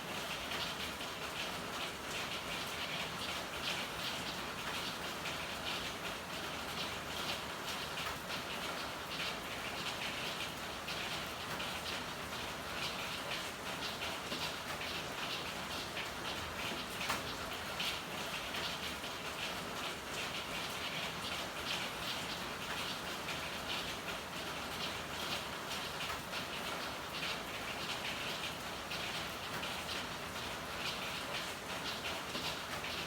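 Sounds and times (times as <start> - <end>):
rain patter on surfaces: 0.0 - 33.0.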